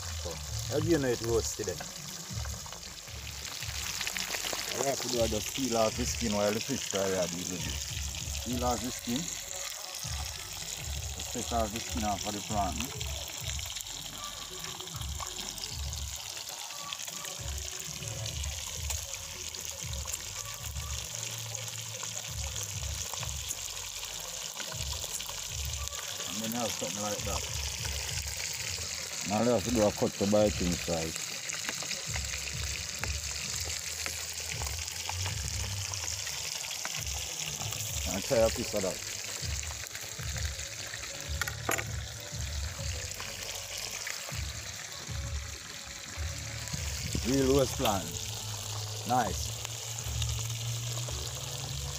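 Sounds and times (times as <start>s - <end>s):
fish sizzling in hot oil: 0.0s - 51.9s.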